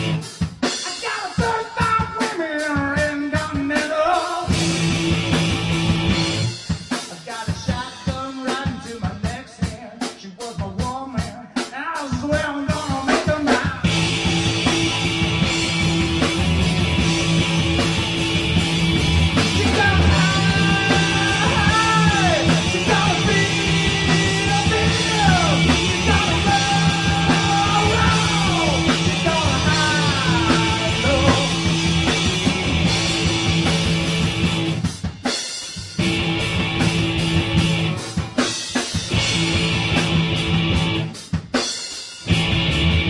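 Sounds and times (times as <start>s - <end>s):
live rock band playing loud: 0.0s - 43.0s.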